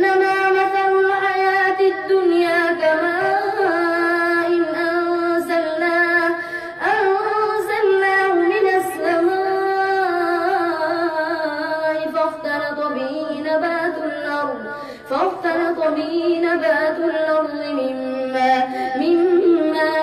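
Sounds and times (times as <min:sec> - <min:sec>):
boy chanting melodically: 0:00.0 - 0:20.0.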